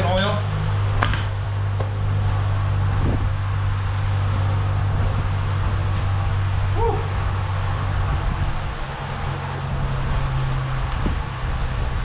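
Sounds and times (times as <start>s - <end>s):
machine humming: 0.0s - 11.9s.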